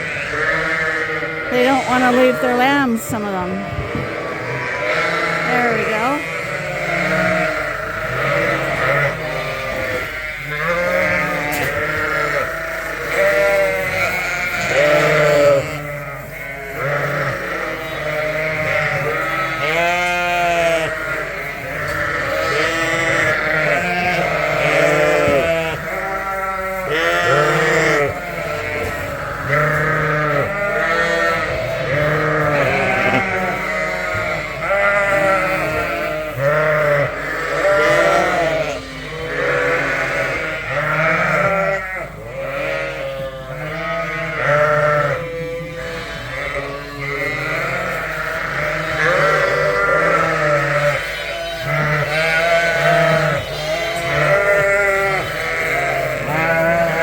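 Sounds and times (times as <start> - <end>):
ewes bleating deeply: 0.0 - 57.0
lambs crying: 0.0 - 57.0.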